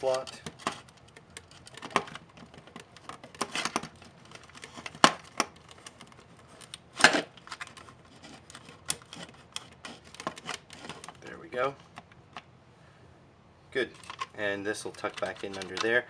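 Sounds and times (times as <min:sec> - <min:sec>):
plastic parts clicking: 0:00.0 - 0:11.2, 0:13.9 - 0:16.0.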